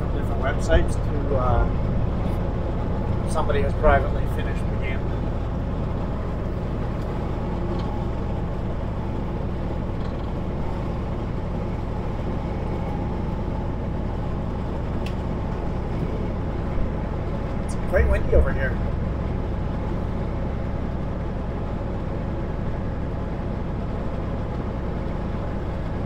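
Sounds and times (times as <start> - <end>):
road noise: 0.0 - 26.0
truck engine drone: 0.0 - 26.0.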